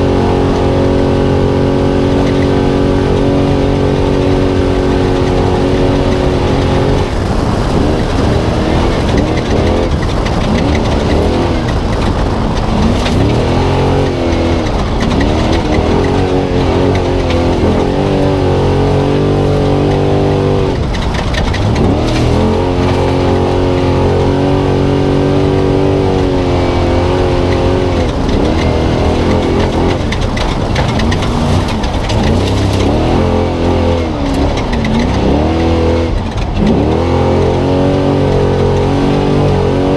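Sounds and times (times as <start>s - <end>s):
road noise: 0.0s - 39.9s
truck engine revving: 0.0s - 39.9s
sharp knocks and clatters: 2.2s - 39.8s.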